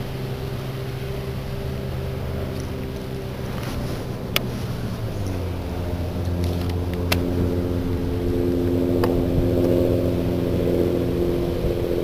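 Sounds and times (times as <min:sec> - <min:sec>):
electric trolling motor whirring: 0:00.0 - 0:12.0.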